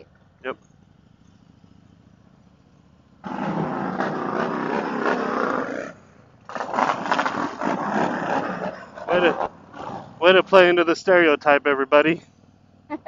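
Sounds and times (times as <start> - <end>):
motorcycle engine pulling away: 0.0 - 13.0.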